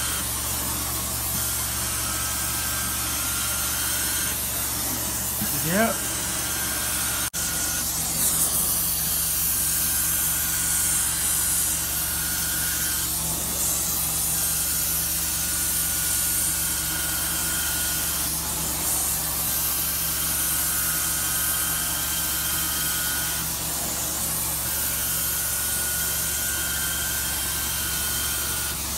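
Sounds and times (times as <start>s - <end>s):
carpet cleaner hiss and suction: 0.0s - 28.9s.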